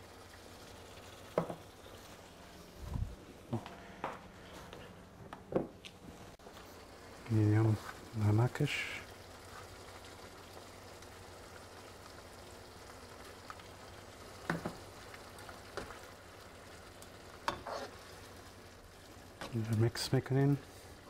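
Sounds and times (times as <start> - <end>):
sauce sizzling in a frying pan: 0.0 - 2.8, 6.3 - 21.0.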